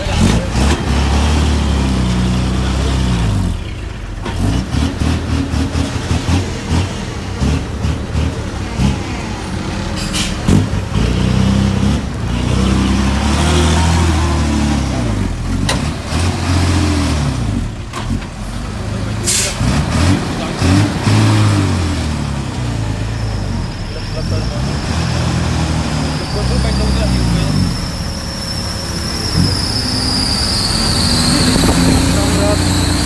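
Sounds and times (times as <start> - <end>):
diesel machinery engine revving: 0.0 - 33.0.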